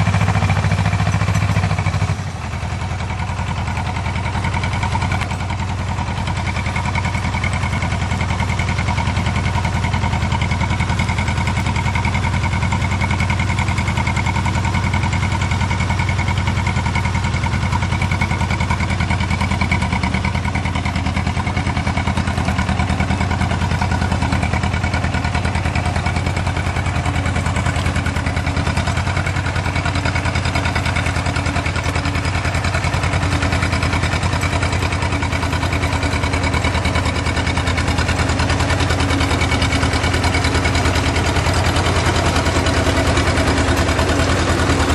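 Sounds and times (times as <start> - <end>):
harvester engine humming: 0.0 - 44.9.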